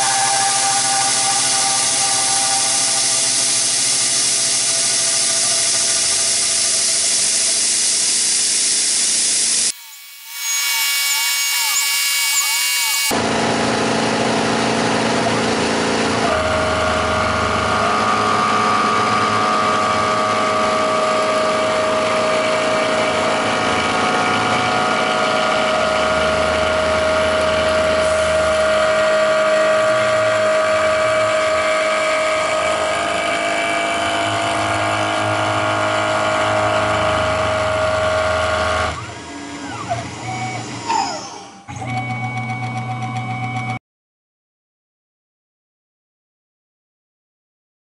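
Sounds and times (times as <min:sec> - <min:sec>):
milling machine spindle whine: 0:00.0 - 0:43.8.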